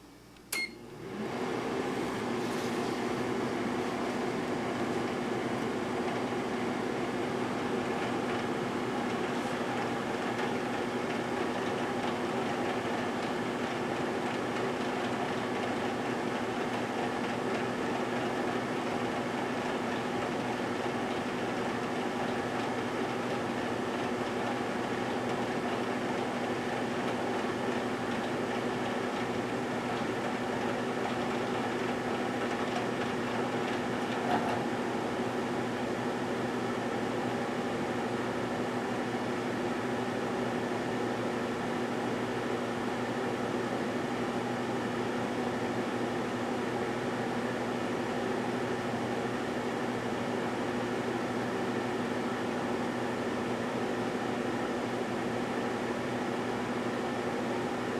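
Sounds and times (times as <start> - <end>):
fan noise: 0.0 - 57.9
microwave oven humming: 0.0 - 57.9.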